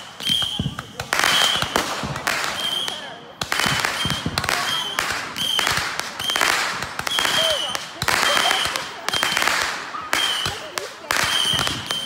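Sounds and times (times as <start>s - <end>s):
high firework whistle: 0.0s - 1.8s, 2.4s - 12.0s
fireworks launching with pops: 0.0s - 12.0s.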